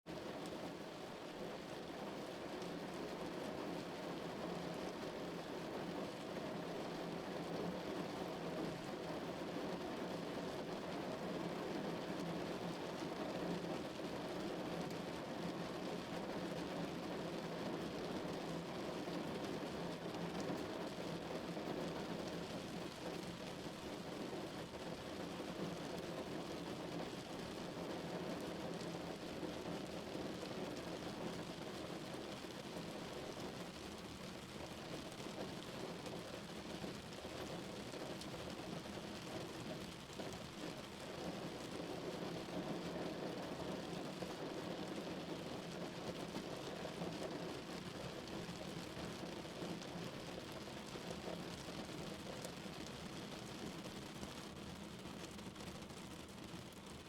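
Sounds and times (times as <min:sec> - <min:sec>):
rain on car roof: 0:00.1 - 0:57.0.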